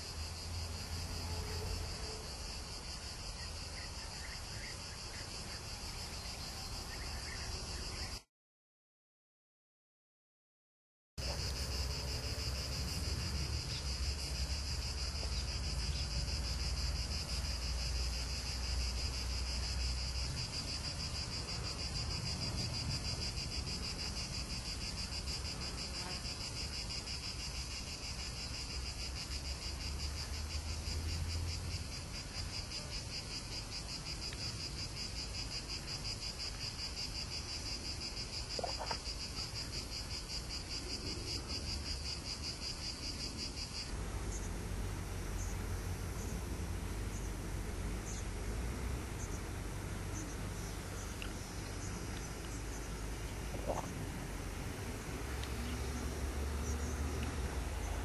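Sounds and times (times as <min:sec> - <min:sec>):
crickets chirping: 0:00.0 - 0:08.3, 0:11.2 - 0:58.0.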